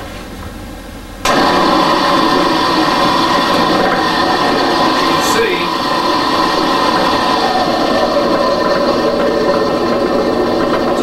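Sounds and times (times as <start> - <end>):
food processor running: 1.2 - 11.0.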